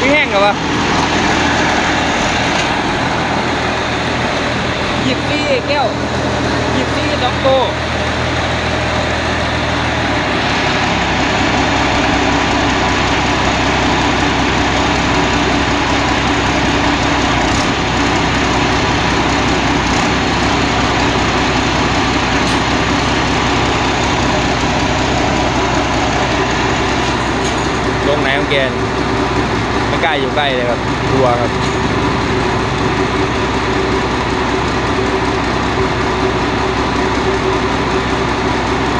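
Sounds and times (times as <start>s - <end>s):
diesel engine running loudly: 0.0s - 38.9s.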